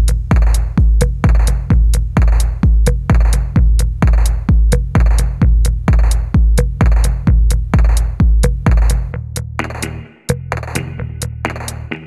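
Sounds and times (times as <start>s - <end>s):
hi-hat ticks: 0.0s - 11.9s
drum machine kick: 0.0s - 12.0s.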